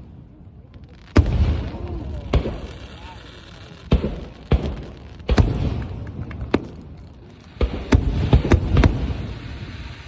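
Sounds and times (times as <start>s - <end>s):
fireworks booming: 1.1s - 10.0s.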